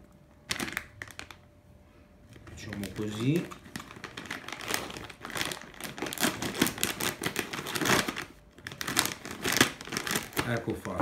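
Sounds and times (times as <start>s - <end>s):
plastic bag crinkling: 0.4s - 1.5s, 2.3s - 11.0s.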